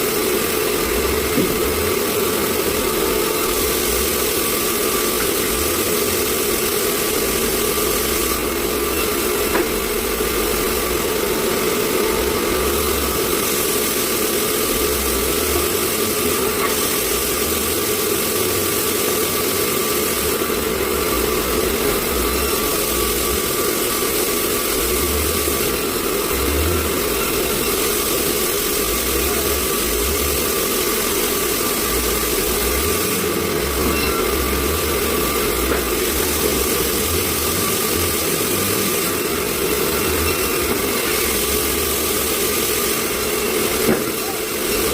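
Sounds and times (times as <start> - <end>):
sawmill machinery droning: 0.0 - 44.9.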